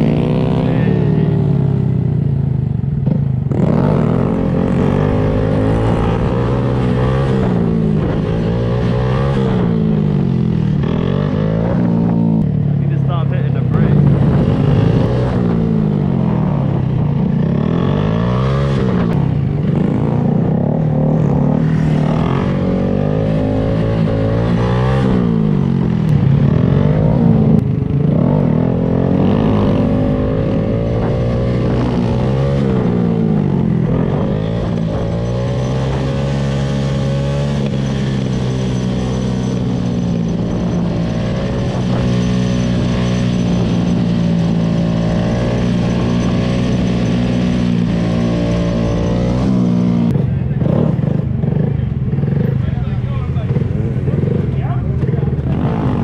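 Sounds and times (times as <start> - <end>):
motorcycle engines accelerating: 0.0 - 56.0.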